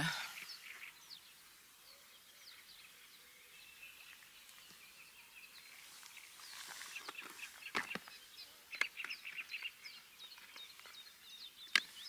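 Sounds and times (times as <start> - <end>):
small birds chirping and singing: 0.0 - 12.0.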